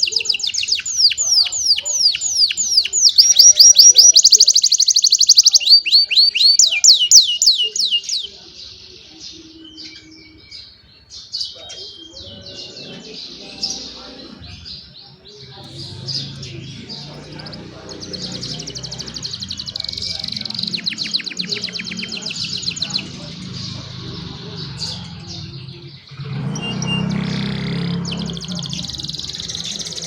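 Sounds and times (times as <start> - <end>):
canaries singing and trilling: 0.0 - 30.0.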